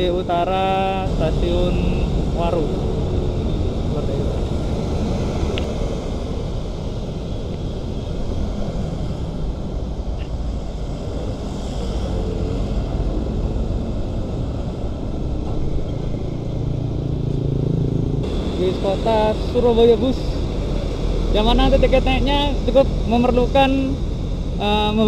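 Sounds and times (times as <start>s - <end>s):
muffled road traffic rumble: 0.0s - 25.0s.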